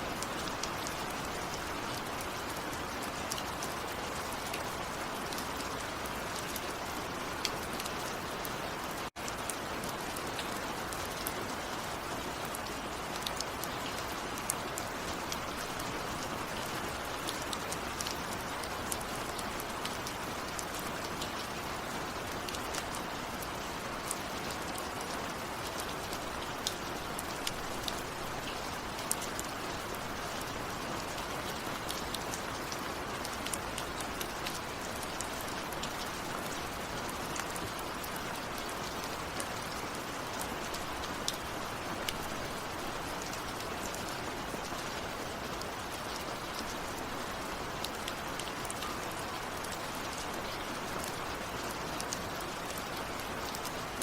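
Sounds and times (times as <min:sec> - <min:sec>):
rain drops striking a surface: 0:00.0 - 0:54.0.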